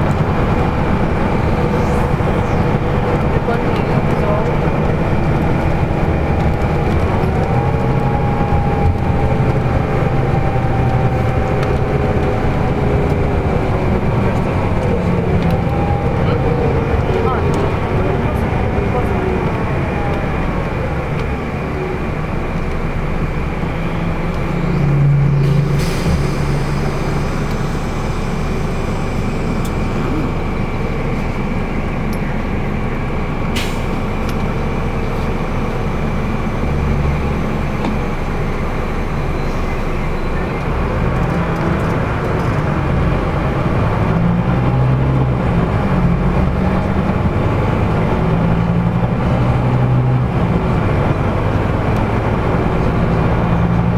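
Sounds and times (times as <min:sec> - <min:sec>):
bus engine drone: 0:00.0 - 0:53.9
road and tyre noise: 0:00.0 - 0:53.9.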